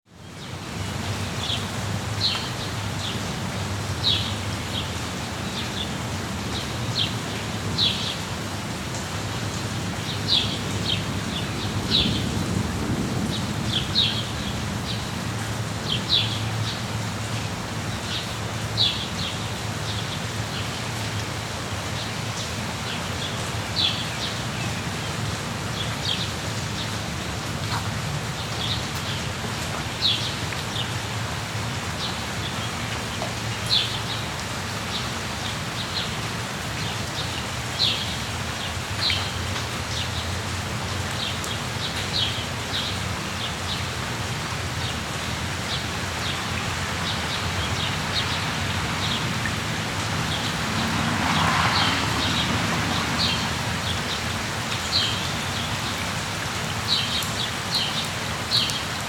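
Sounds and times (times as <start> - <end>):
steady rain: 0.1 - 59.0.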